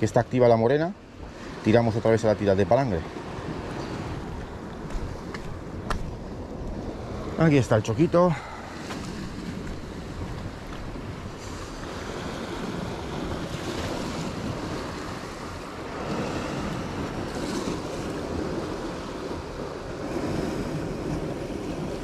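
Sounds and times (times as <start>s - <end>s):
surf washing against rocks: 0.0s - 22.0s
wind rumbling on microphone: 0.0s - 22.0s.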